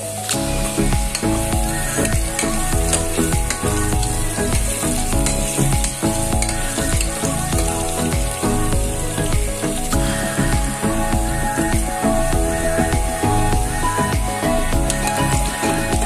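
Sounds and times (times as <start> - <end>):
potatoes sizzling in hot oil: 0.0 - 16.0.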